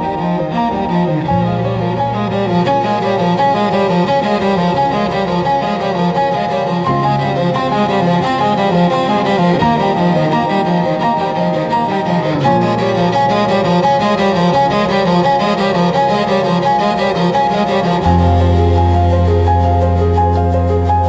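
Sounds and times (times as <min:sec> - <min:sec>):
slow bowed cello music: 0:00.0 - 0:21.0.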